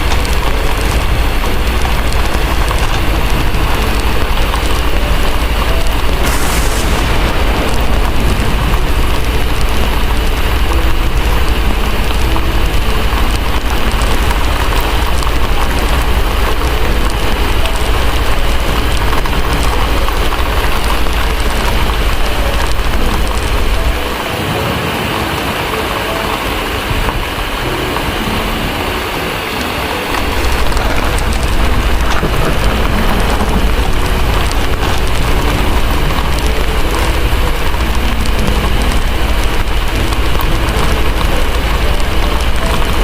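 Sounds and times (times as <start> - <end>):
deep low rumble: 0.0 - 24.3, 30.1 - 43.0
heavy rain hissing: 0.0 - 43.0.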